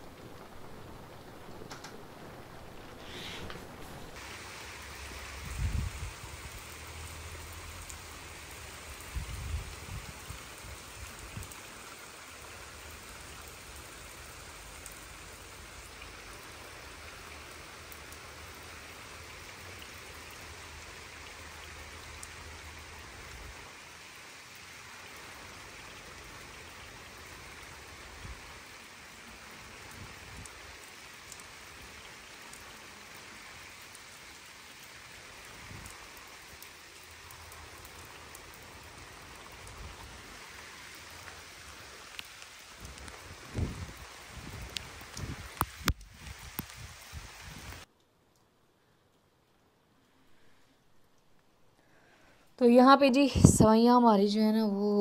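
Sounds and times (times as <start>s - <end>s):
rain on flooded ground: 0.0s - 55.0s.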